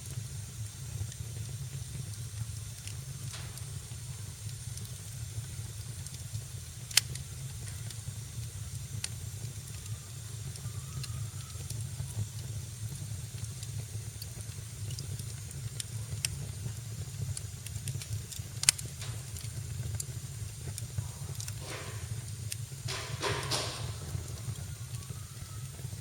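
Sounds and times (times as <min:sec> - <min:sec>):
fire hissing: 0:00.0 - 0:26.0
fire popping: 0:00.0 - 0:26.0
fireplace fire crackling: 0:00.0 - 0:26.0.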